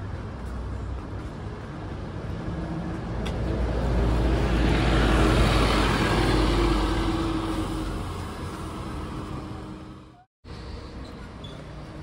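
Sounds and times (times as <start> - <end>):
bus passing by: 0.4 - 12.0.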